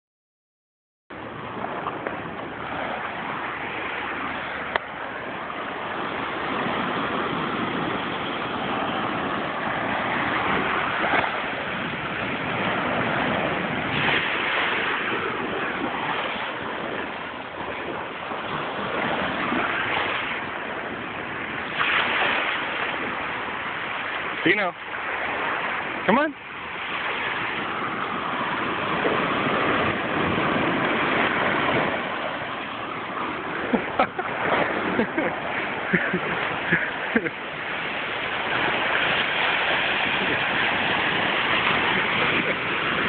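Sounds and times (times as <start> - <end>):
surf breaking on beach: 1.1 - 43.0.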